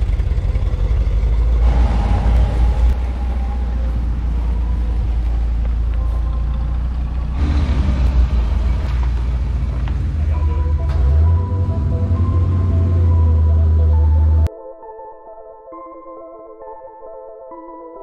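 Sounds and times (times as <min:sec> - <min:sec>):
car engines rumbling past: 0:00.0 - 0:14.5.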